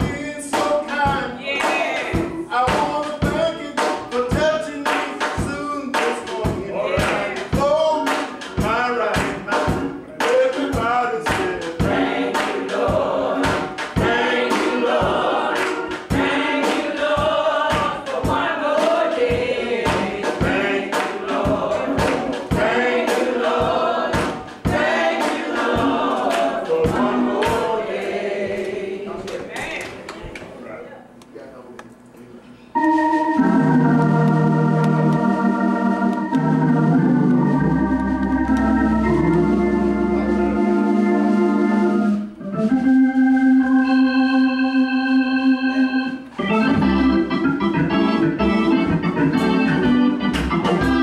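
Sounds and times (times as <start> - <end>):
sharp beats keeping time: 0.0 - 29.1, 32.8 - 51.0
choir singing gospel: 0.0 - 30.8, 32.8 - 51.0.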